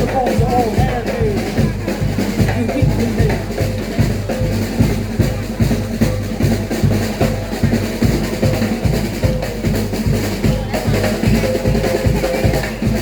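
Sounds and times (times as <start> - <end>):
bass drum and snare drumming: 0.0 - 13.0.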